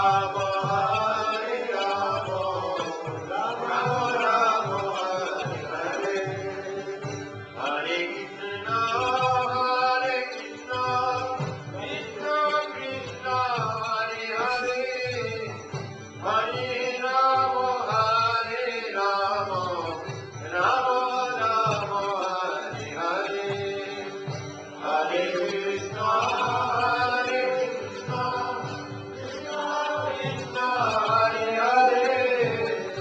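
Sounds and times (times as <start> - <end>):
voices singing a chant: 0.0 - 33.0.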